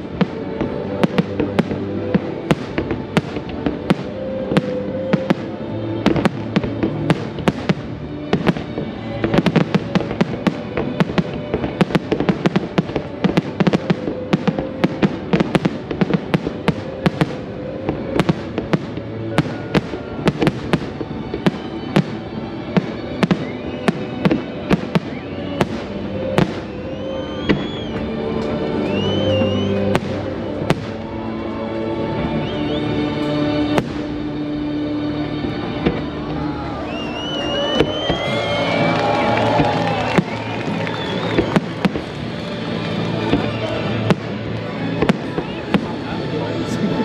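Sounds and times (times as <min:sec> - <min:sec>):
fireworks bursting: 0:00.0 - 0:31.2, 0:35.7 - 0:47.0
music playing: 0:00.0 - 0:47.0.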